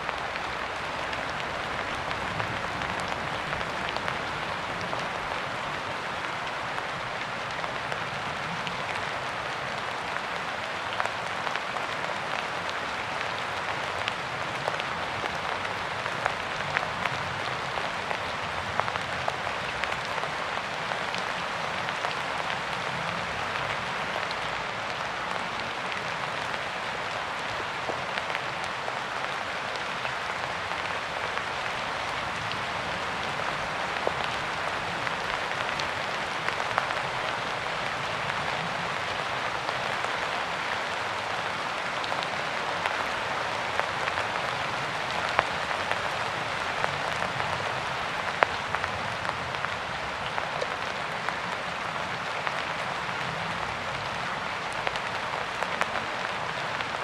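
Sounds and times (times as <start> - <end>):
raindrops ticking on a surface: 0.0 - 57.0
steady rain hiss: 0.0 - 57.0.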